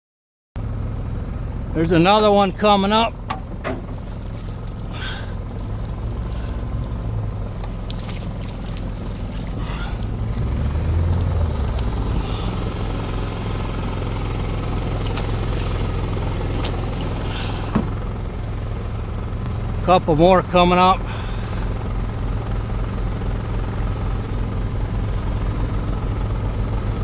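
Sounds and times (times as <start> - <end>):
generator engine drone: 0.6 - 27.0
outboard motor: 0.6 - 27.0.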